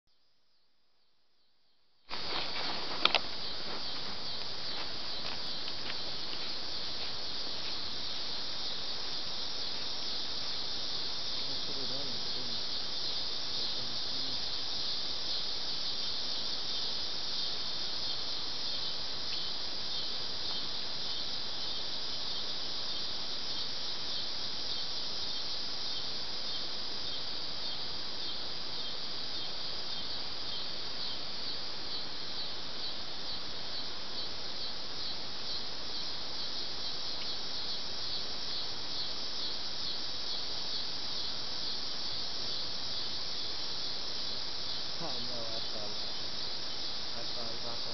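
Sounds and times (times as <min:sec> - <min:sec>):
insects chirring: 0:00.1 - 0:47.9.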